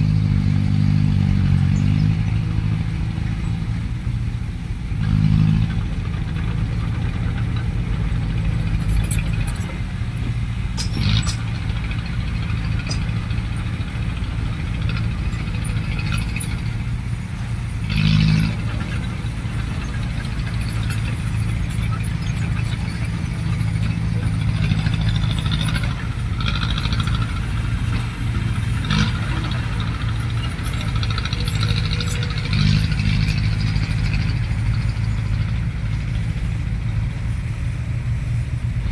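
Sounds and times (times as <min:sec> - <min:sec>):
diesel machinery humming: 0:00.0 - 0:38.9.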